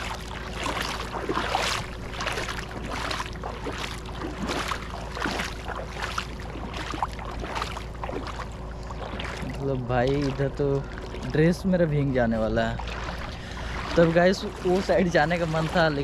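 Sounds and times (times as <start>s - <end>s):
footsteps splashing in water: 0.0s - 16.0s.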